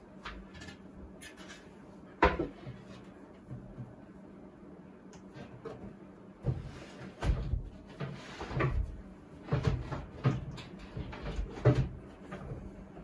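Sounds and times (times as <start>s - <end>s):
objects knocking and clunking: 0.3s - 4.0s, 5.4s - 12.8s.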